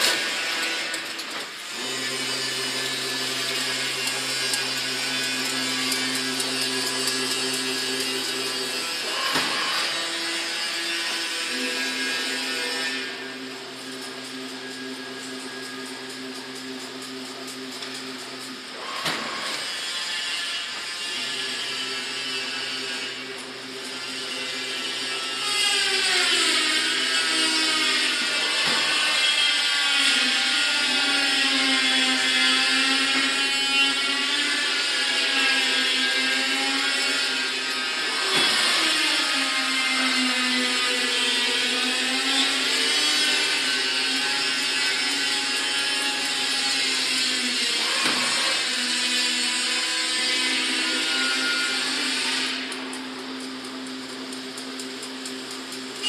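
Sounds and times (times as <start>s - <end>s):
machine motor hum and whirring: 0.0s - 56.0s.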